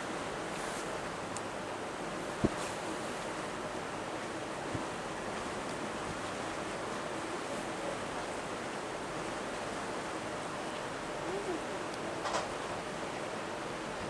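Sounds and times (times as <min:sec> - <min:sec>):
wind and water rushing: 0:00.0 - 0:14.0.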